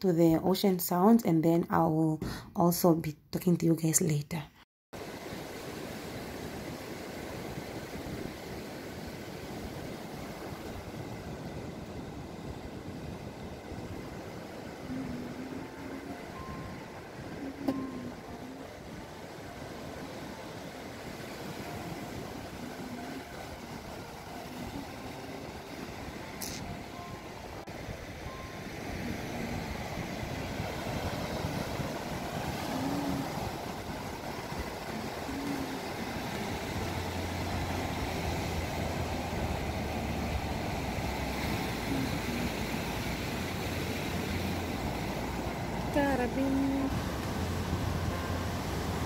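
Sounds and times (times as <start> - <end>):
low rumble of surf: 5.0 - 49.0
waves breaking on shore: 5.0 - 49.0.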